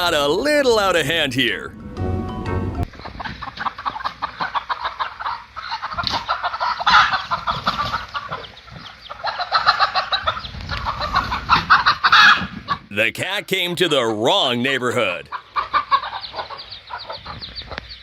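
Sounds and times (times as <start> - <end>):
chickens clucking: 2.6 - 12.9, 13.8 - 18.0.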